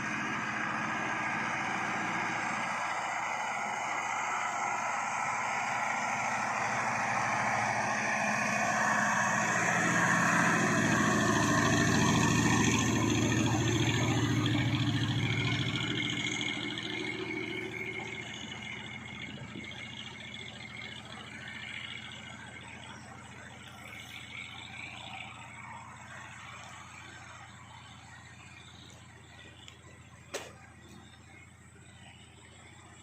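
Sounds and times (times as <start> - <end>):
diesel truck engine under load: 0.0 - 33.0.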